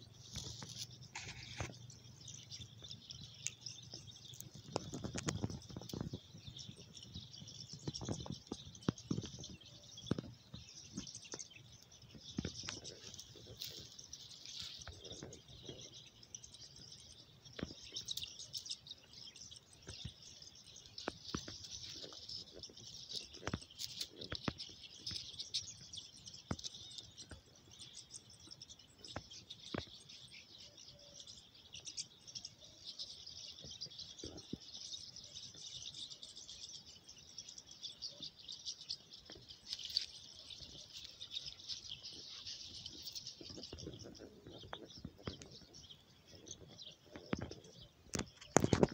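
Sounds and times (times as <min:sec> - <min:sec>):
high-pitched chirping chorus: 0:00.0 - 0:48.9.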